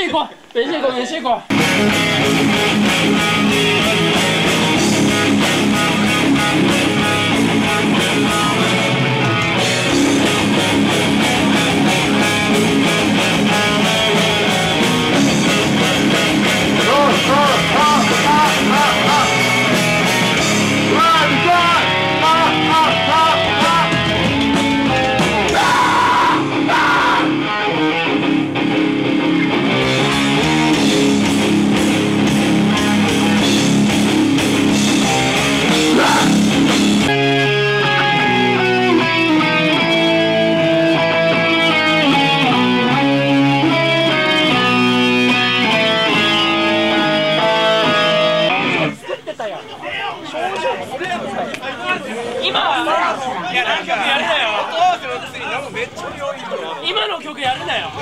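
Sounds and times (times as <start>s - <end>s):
live rock band playing: 1.5s - 49.0s
electric guitar: 1.5s - 49.1s.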